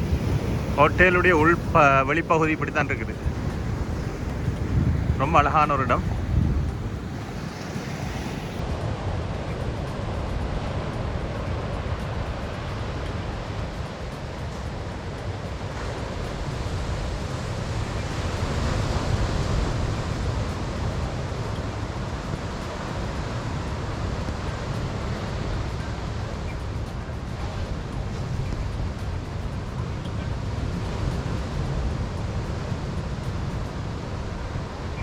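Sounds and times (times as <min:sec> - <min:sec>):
ocean surf washing onto beach: 0:00.0 - 0:35.0
wind buffeting microphone: 0:00.0 - 0:35.0.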